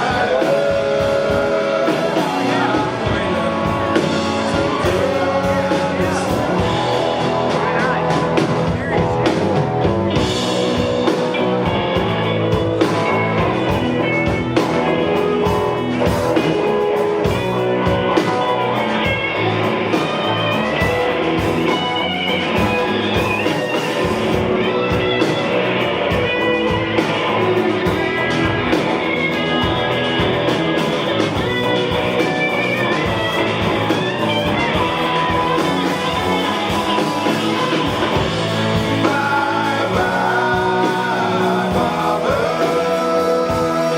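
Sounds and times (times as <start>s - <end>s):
electric guitar: 0.0s - 43.9s
live rock band playing: 0.0s - 43.9s.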